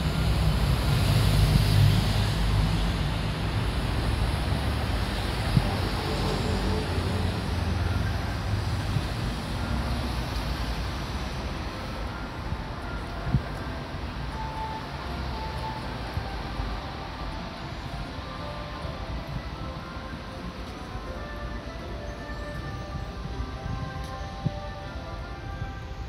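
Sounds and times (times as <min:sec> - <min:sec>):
rumble of passing cars: 0:00.0 - 0:26.0.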